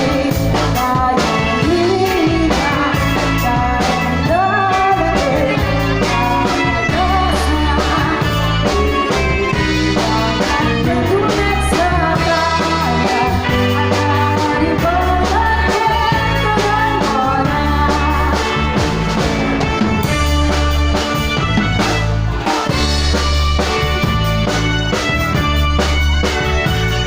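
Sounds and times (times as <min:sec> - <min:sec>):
person singing: 0:00.0 - 0:23.7
live band playing: 0:00.0 - 0:27.0.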